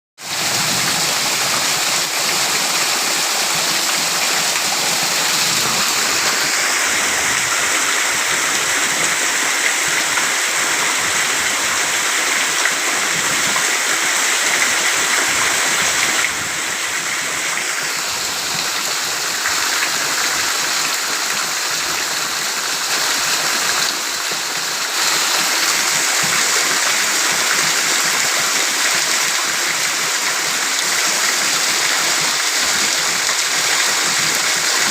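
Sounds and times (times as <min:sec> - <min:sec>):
heavy rain: 0:00.2 - 0:34.9.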